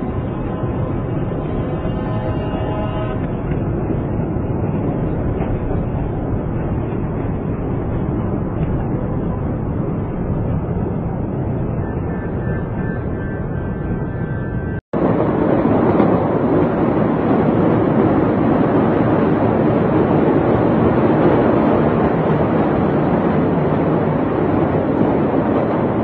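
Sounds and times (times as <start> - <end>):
loud steady rushing noise: 0.0 - 26.0.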